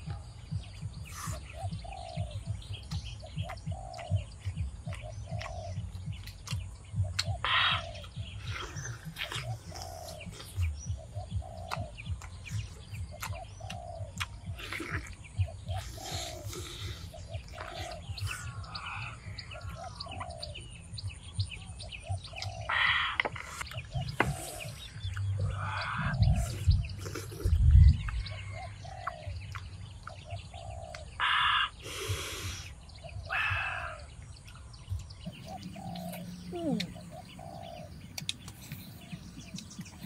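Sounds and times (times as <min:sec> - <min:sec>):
dull low thumps: 0:00.0 - 0:31.2, 0:32.8 - 0:40.0
birds calling and chirping: 0:00.0 - 0:40.0.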